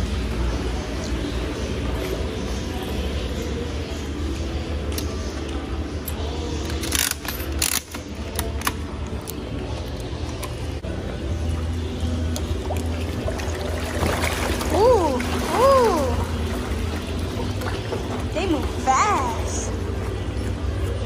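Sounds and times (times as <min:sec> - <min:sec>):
faint background music: 0:00.0 - 0:21.0
steady hum: 0:00.0 - 0:21.0.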